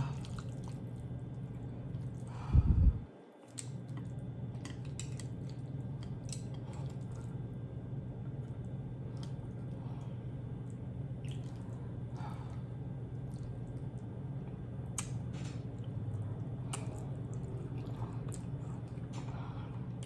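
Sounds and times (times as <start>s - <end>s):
wet chewing and mouth smacks: 0.0s - 2.4s, 3.4s - 7.6s, 8.2s - 19.3s
steady low hum: 0.0s - 20.0s.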